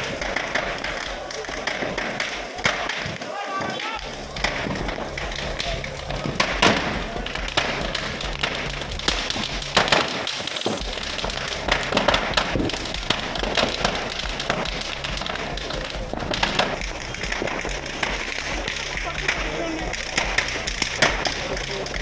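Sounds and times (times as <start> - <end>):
background music: 0.0 - 22.0
firecrackers banging: 0.0 - 22.0.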